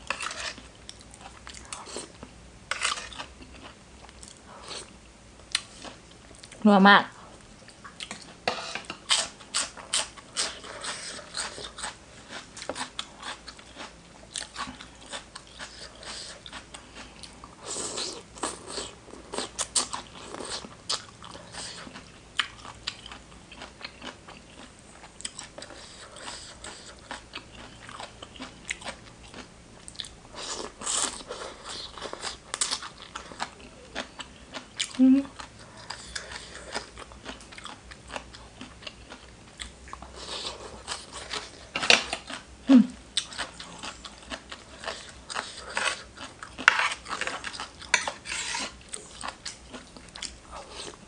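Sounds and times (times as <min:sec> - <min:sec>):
person chewing crunchy food: 0:00.0 - 0:06.6, 0:07.6 - 0:42.5, 0:43.1 - 0:51.0.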